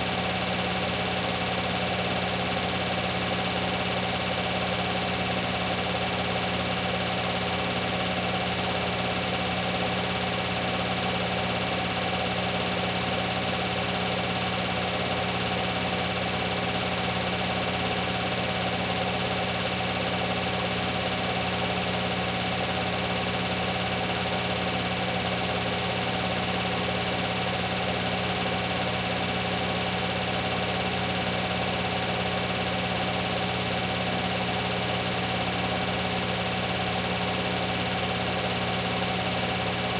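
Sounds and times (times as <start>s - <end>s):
washing machine spin cycle hum: 0.0s - 39.9s.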